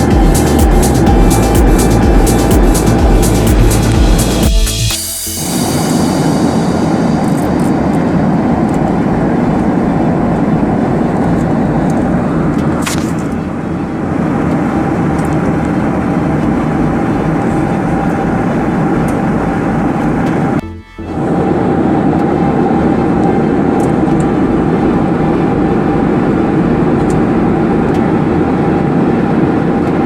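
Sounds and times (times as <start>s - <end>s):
jet engines rumbling: 0.0s - 30.0s
rushing air: 0.0s - 30.0s.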